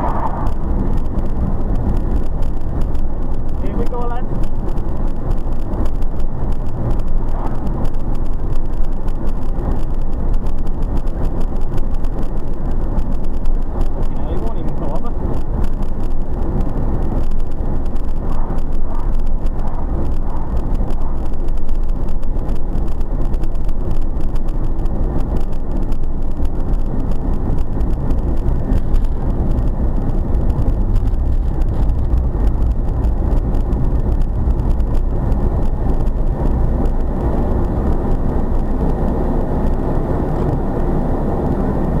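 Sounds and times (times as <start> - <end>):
car cabin road and engine noise: 0.0 - 42.0.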